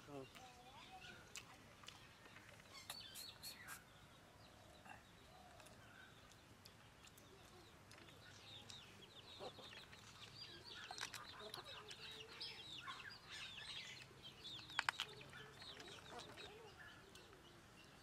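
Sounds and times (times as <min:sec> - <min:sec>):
faint birdsong chirps: 0:00.0 - 0:18.0.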